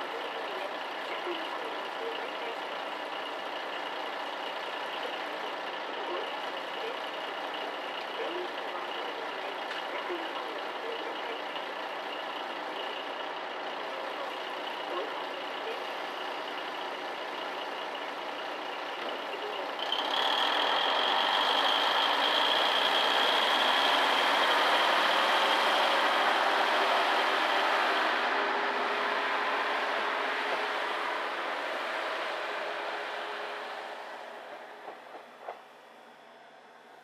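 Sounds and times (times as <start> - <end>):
diesel railcar engine: 0.0 - 37.0.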